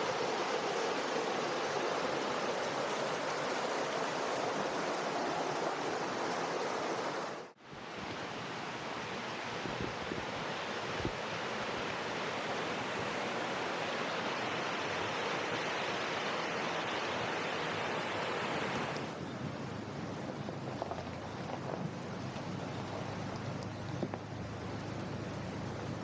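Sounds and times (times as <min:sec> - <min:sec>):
mountain stream rushing: 0:00.0 - 0:26.0.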